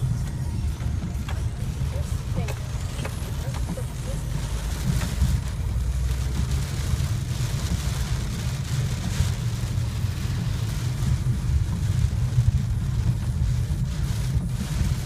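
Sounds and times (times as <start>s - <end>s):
car cabin rumble: 0.0s - 15.0s
rain and spray hiss: 0.0s - 15.0s.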